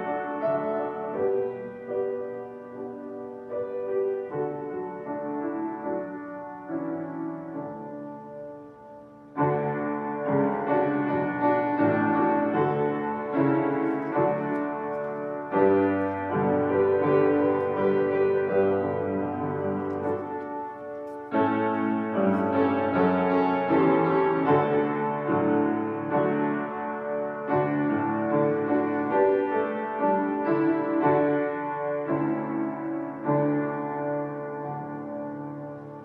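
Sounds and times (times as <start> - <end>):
piano playing slow chords: 0.0 - 36.0.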